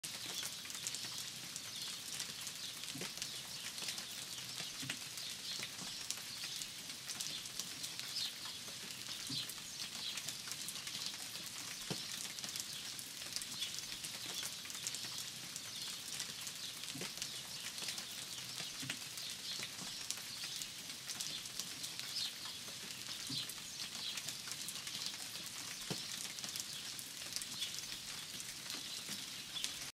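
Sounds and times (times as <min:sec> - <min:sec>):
raindrops ticking close by: 0:00.0 - 0:30.0
steady rain falling: 0:00.0 - 0:30.0
birds chirping: 0:00.3 - 0:12.9, 0:13.5 - 0:29.9.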